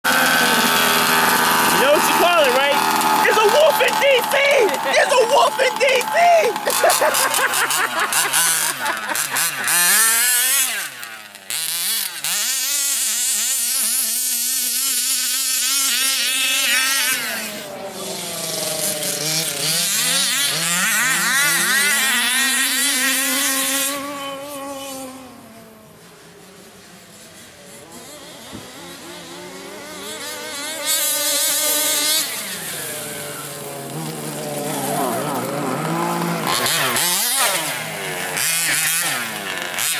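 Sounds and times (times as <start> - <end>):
rc buggy engine revving: 0.0 - 39.9.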